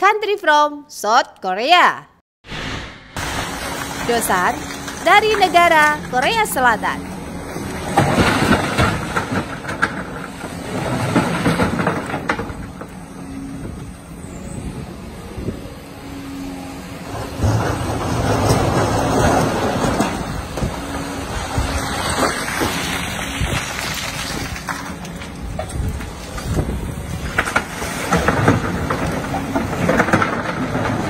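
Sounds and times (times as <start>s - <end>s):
excavator diesel engine running: 3.0s - 31.0s.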